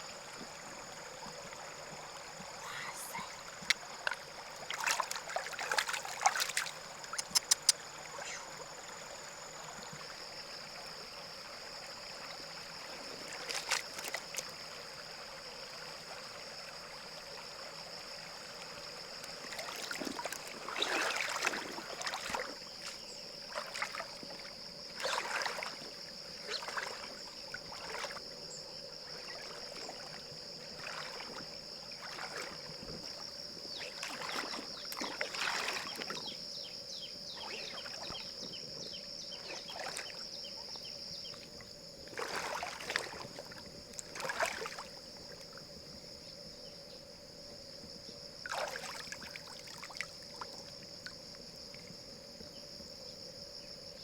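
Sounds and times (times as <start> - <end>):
river water splashing: 0.0 - 46.0, 48.4 - 51.8.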